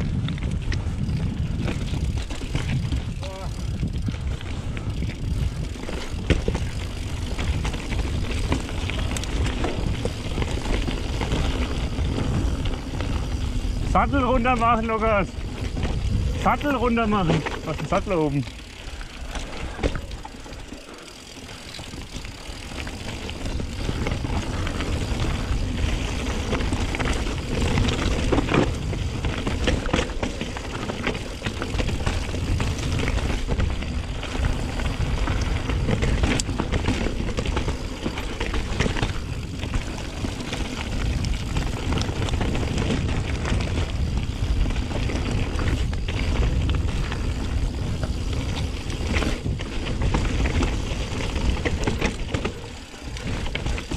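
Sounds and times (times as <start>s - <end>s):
bike rattling and knocking: 0.0s - 53.9s
bike tyres on rough ground: 0.0s - 53.9s
wind rumbling on microphone: 0.0s - 53.9s.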